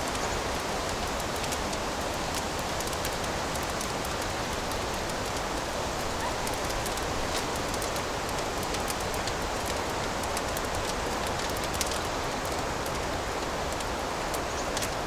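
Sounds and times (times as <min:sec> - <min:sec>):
fire crackling and popping: 0:00.0 - 0:15.0
wood fire hissing: 0:00.0 - 0:15.0.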